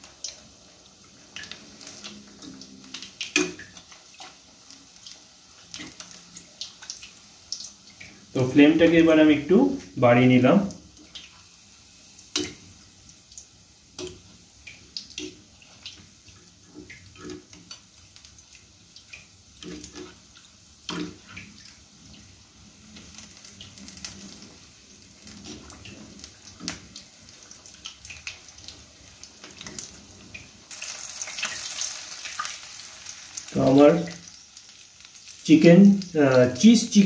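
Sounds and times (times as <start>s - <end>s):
oil popping and crackling: 0.0s - 8.5s, 10.7s - 37.0s
oil sizzling: 0.0s - 37.0s.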